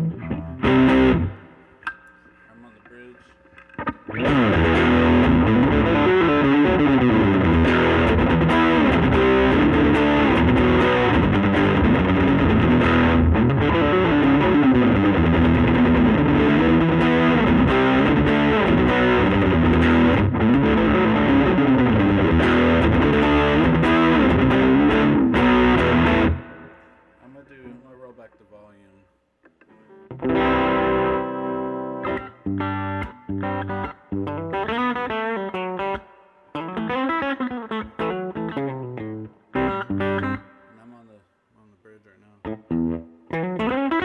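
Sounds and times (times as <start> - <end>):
distorted electric guitar riff: 0.0 - 27.1, 29.5 - 40.7, 42.4 - 44.0.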